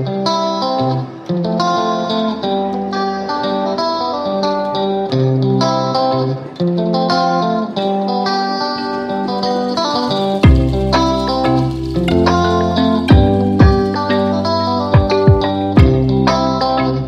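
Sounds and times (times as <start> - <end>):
guitar plucking notes: 0.0 - 17.0.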